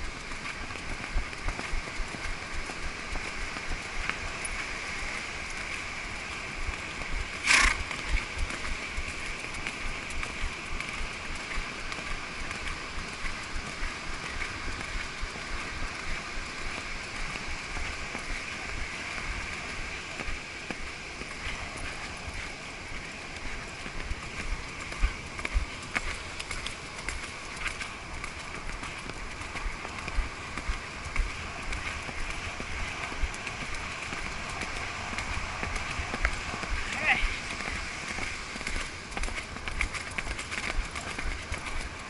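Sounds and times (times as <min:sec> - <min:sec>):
horse hoofbeats on wet sand: 0:00.0 - 0:42.0
wind buffeting microphone: 0:00.0 - 0:42.0.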